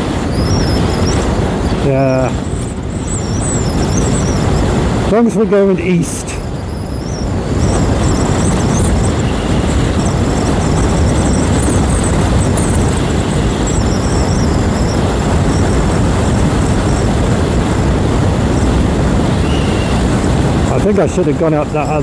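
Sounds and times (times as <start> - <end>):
motorcycle engine running: 0.0 - 5.7, 6.4 - 22.0
wind buffeting microphone: 0.0 - 22.0.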